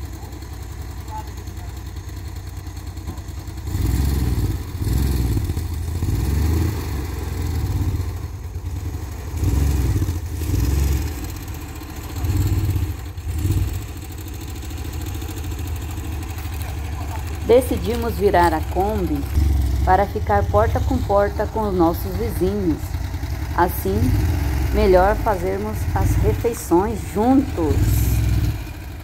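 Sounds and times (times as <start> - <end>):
van engine idling and revving: 0.0 - 29.0.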